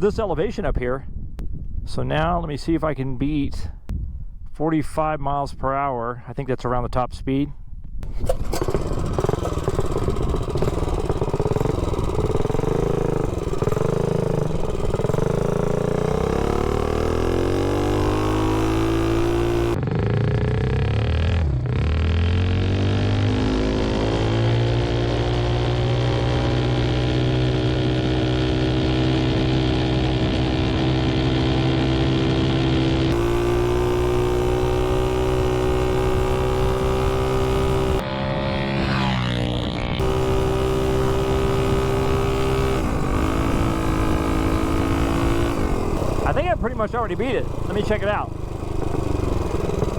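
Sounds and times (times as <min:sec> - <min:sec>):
small engine revving at full throttle: 0:08.0 - 0:49.9.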